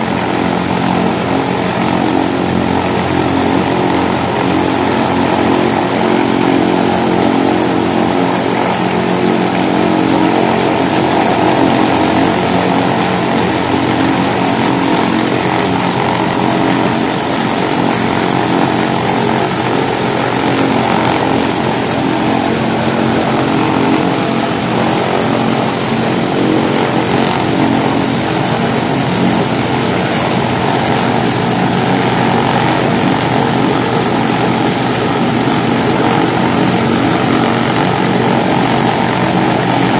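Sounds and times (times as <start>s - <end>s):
radial aircraft engine droning: 0.0s - 39.9s.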